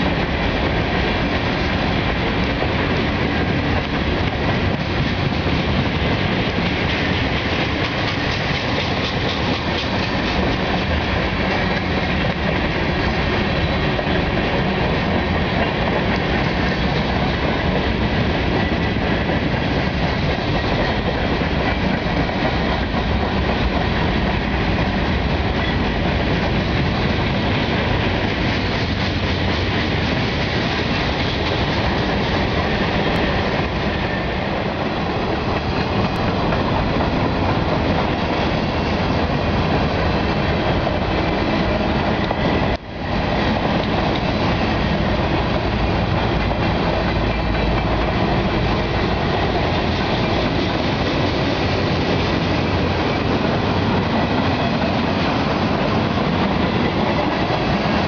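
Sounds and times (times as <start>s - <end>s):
freight train wheels rumbling and clattering: 0.0s - 58.0s.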